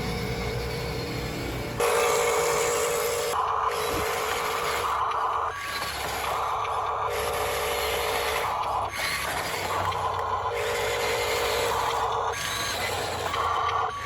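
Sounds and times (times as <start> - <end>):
toy gear motor whirring: 0.0 - 14.0.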